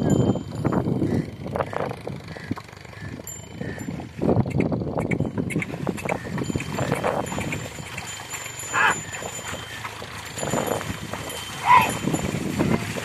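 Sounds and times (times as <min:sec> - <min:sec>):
hooves squelching in mud: 0:00.0 - 0:13.0.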